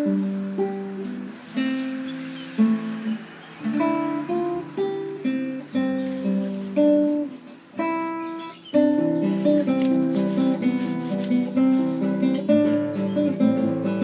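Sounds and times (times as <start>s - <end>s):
nylon-string guitar playing: 0.0s - 14.0s.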